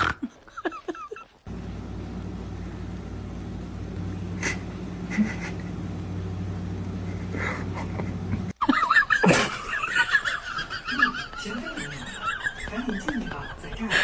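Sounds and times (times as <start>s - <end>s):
low mechanical hum: 1.3s - 14.0s.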